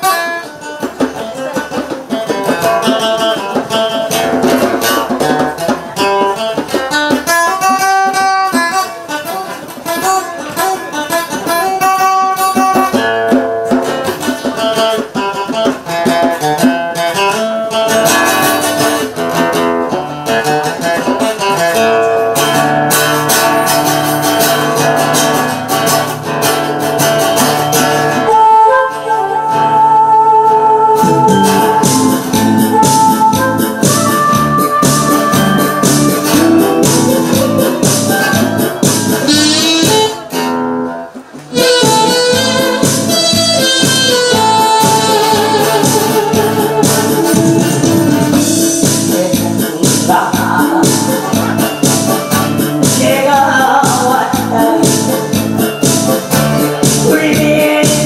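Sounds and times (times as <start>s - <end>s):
djembe hand drumming: 0.0s - 28.3s, 31.0s - 58.0s
acoustic guitar tune: 0.0s - 58.0s.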